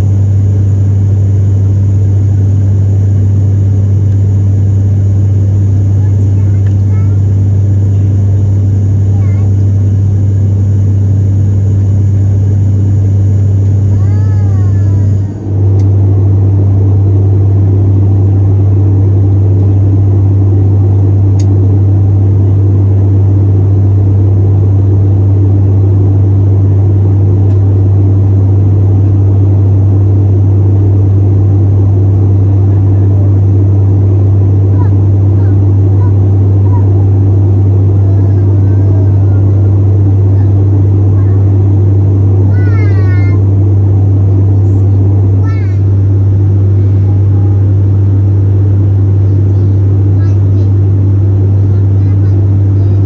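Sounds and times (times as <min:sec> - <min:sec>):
turboprop cabin drone: 0:00.0 - 0:53.0.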